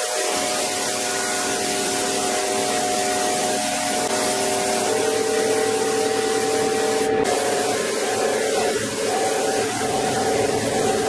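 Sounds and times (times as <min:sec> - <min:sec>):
paint spray gun hissing: 0:00.0 - 0:11.0
steady hum: 0:00.2 - 0:11.0.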